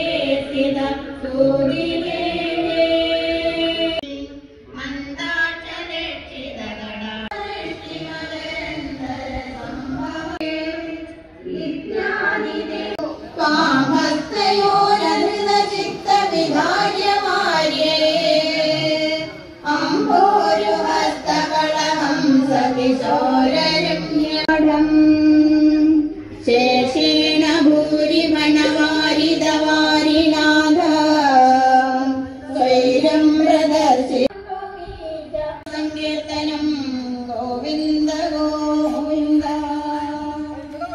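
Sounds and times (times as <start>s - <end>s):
woman singing song: 0.0s - 40.9s.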